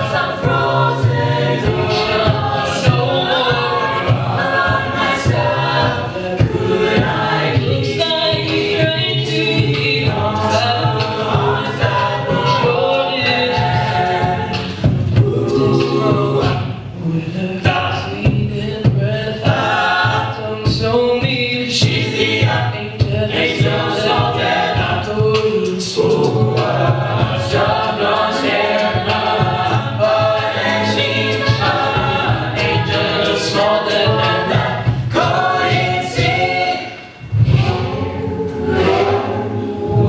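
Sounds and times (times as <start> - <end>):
backing choir singing: 0.0 - 40.0
vocal percussion: 0.0 - 40.0.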